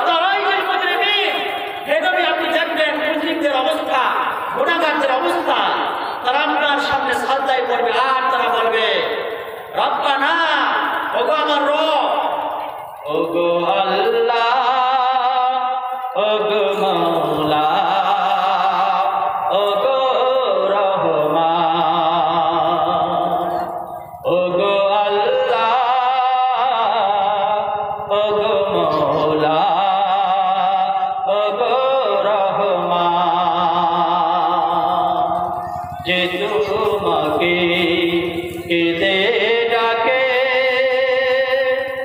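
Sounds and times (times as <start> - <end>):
man chanting melodically: 0.0 - 42.0.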